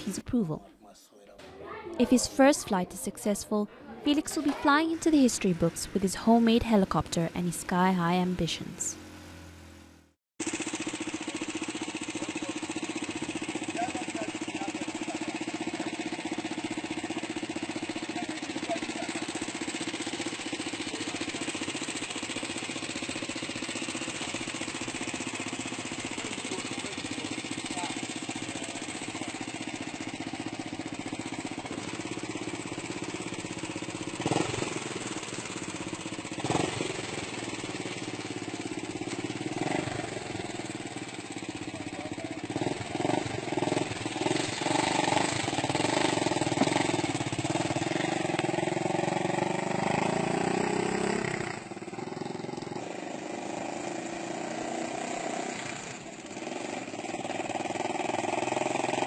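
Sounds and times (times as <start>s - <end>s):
small engine running: 4.1s - 59.0s.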